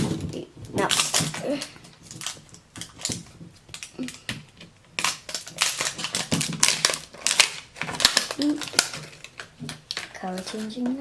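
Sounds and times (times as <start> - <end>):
toy packaging crackling: 0.0 - 11.0.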